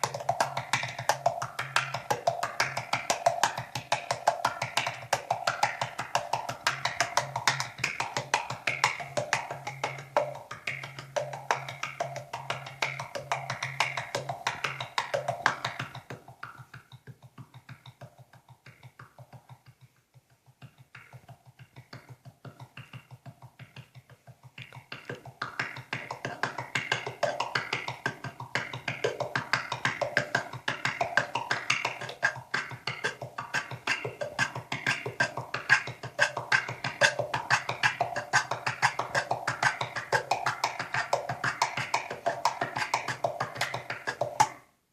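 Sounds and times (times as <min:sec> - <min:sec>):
tongue drum notes: 0:00.0 - 0:44.7.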